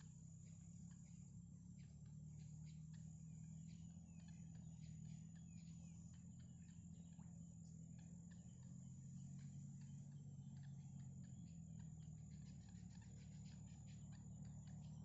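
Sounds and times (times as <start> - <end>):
steady low hum: 0.0 - 15.0
heron nestlings chirping: 1.9 - 15.0.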